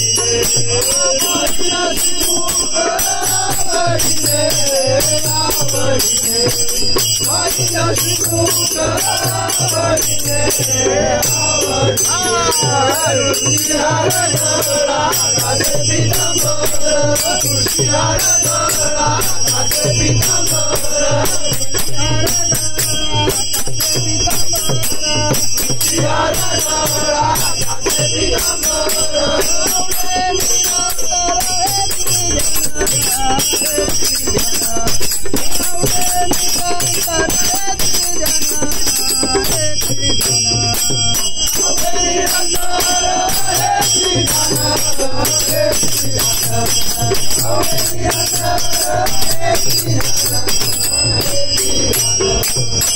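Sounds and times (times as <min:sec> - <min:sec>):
hand cymbals ringing: 0:00.0 - 0:52.9
hand drums: 0:00.0 - 0:52.9
men singing devotional song: 0:00.0 - 0:52.9.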